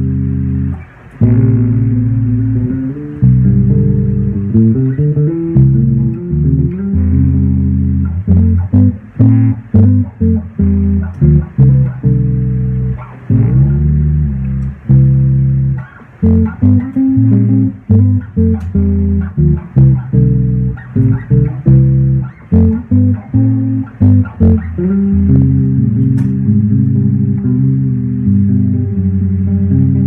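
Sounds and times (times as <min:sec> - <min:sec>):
bass guitar riff: 0:00.0 - 0:30.0.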